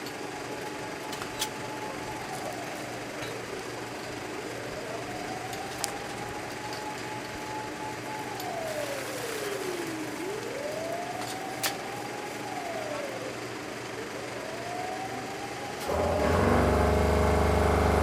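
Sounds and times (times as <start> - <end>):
fire engine siren wailing: 0.0 - 18.0.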